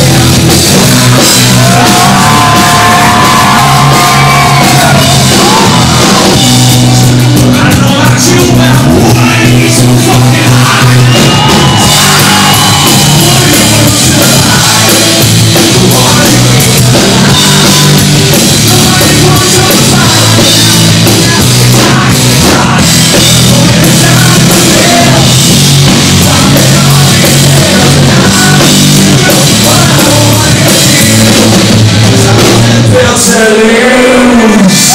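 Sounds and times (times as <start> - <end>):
bass guitar: 0.0 - 34.9
drums: 0.0 - 34.9
man singing lead vocals: 0.0 - 34.9.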